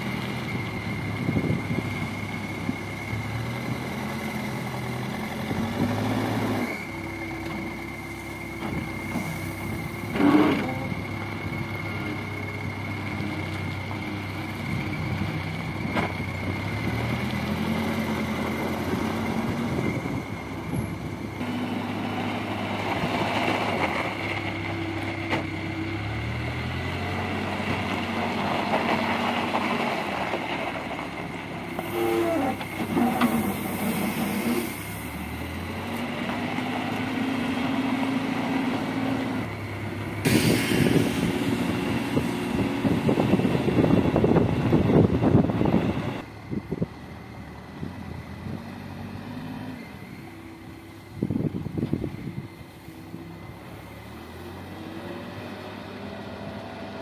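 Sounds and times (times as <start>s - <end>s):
backhoe diesel engine revving: 0.0s - 57.0s.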